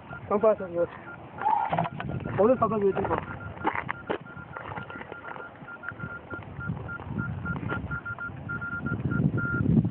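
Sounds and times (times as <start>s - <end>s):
electronic beeper beeping: 0.0s - 9.7s.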